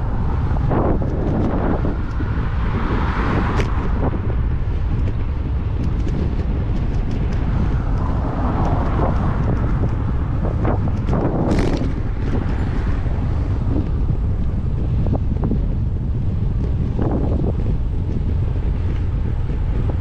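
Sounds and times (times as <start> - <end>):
road traffic passing: 0.0 - 20.0
wind buffeting microphone: 0.0 - 20.0.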